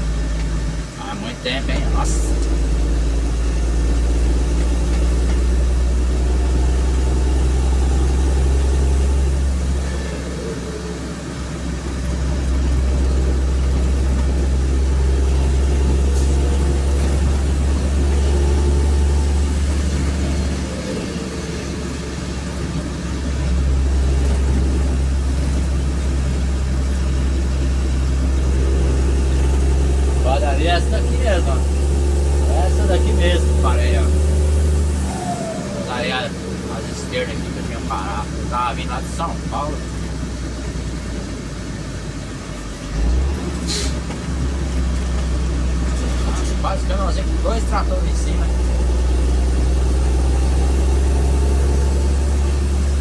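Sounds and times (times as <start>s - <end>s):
vehicle engine and road drone: 0.0s - 53.0s.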